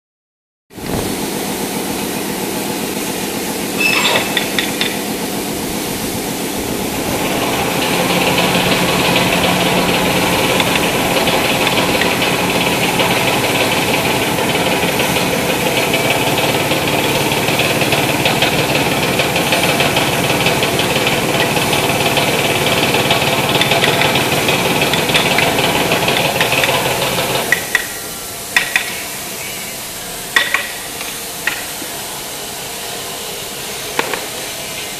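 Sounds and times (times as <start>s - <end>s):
motor-driven machine humming: 0.8s - 34.9s.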